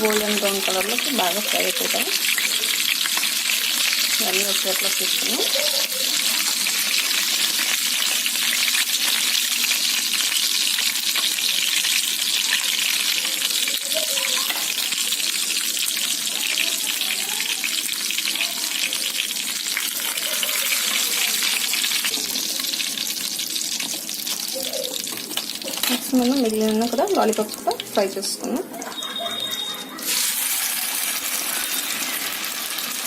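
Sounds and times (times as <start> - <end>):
food sizzling in hot oil: 0.0 - 33.0.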